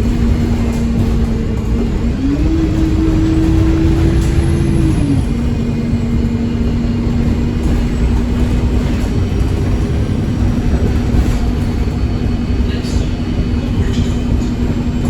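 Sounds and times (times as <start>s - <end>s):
bus engine rumble: 0.0s - 15.0s
drivetrain whine: 0.0s - 15.0s.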